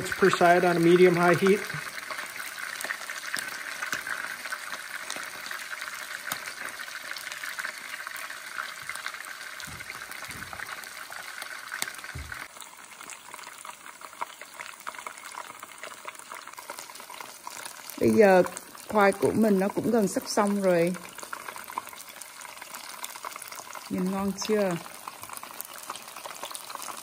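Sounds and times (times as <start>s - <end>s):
hot oil sizzling and crackling: 0.0s - 27.0s.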